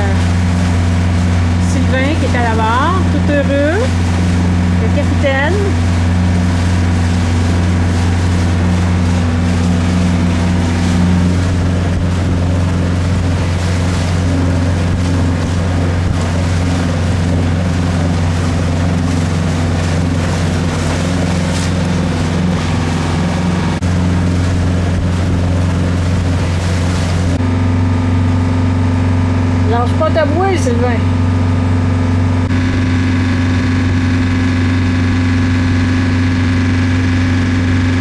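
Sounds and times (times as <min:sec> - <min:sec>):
boat engine droning: 0:00.0 - 0:38.0
water rushing: 0:00.0 - 0:38.0.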